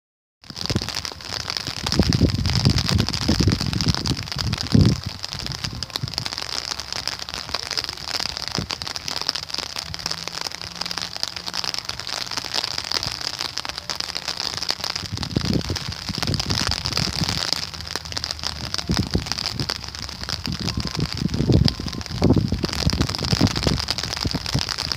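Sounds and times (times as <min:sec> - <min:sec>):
rain pattering: 0:00.4 - 0:24.9
low rumbling: 0:00.5 - 0:24.9.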